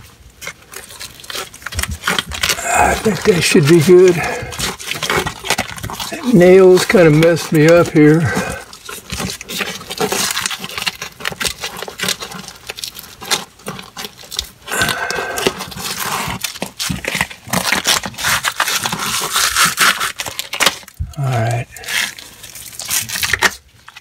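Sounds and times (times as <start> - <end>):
foil patch crinkling: 0.0 - 24.0.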